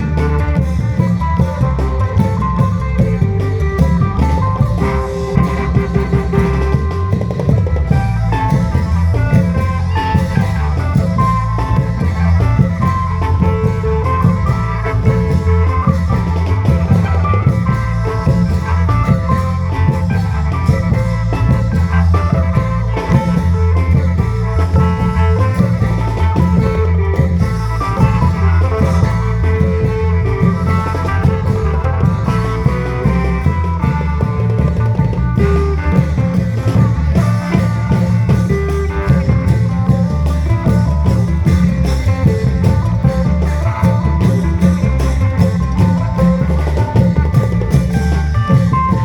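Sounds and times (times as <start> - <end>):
folk melody: 0.0 - 49.0
long drums beating a rhythm: 0.0 - 49.0.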